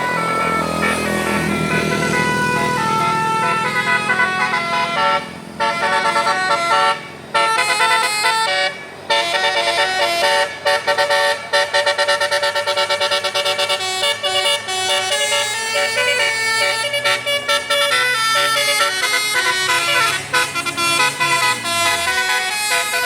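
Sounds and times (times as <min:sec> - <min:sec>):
multi-tone bus air horn melody: 0:00.0 - 0:23.0.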